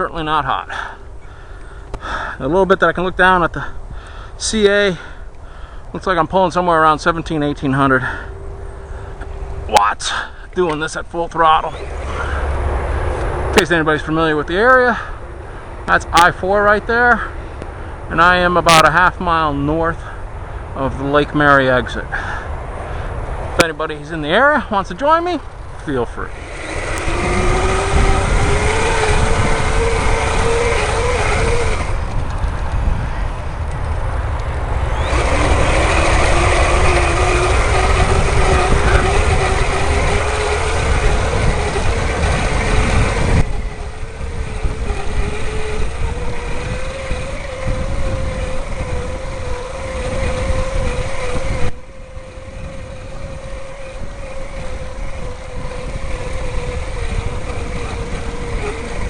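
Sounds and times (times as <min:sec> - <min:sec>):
electric bike motor whining: 0:00.7 - 0:02.5, 0:03.8 - 0:18.9, 0:25.0 - 0:59.0
wind rumble on microphone: 0:05.9 - 0:59.0.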